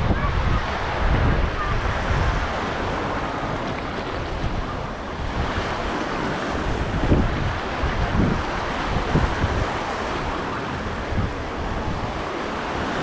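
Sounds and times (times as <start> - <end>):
sea waves washing on shore: 0.0 - 13.0
wind buffeting microphone: 0.0 - 13.0.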